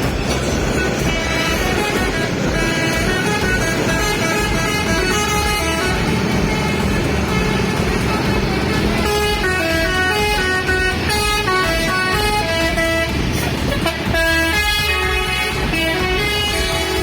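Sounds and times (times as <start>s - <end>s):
bus engines rumbling: 0.0s - 17.0s
multi-tone bus horn tune: 0.0s - 17.0s.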